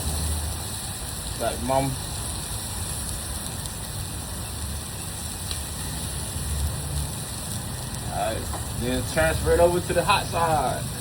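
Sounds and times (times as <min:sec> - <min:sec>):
chicken sizzling on a griddle: 0:00.0 - 0:11.0
low steady rumble: 0:00.0 - 0:11.0.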